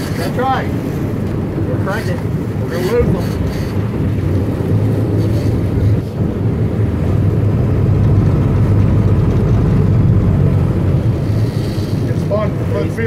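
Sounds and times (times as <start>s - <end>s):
boat engines droning: 0.0s - 13.0s
water rushing along hull: 0.0s - 13.0s.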